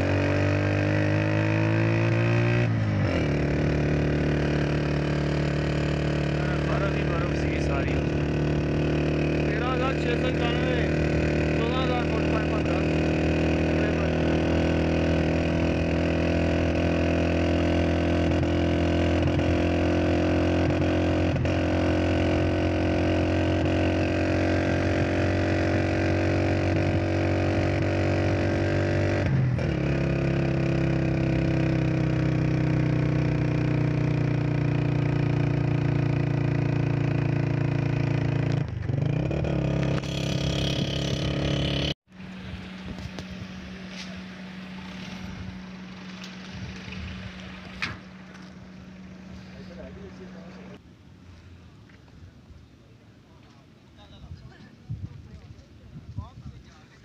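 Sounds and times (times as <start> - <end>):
motorcycle engine running: 0.0 - 50.8.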